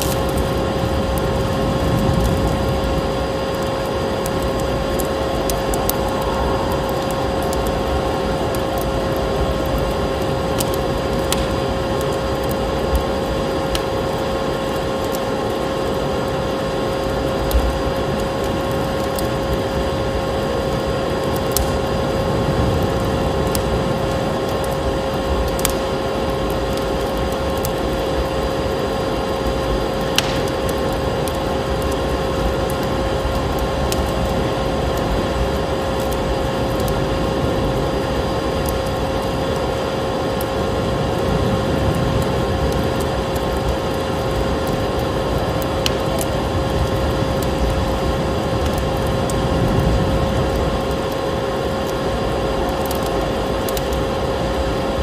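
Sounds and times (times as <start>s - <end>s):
fire crackling and popping: 0.0s - 55.0s
steady rushing noise: 0.0s - 55.0s.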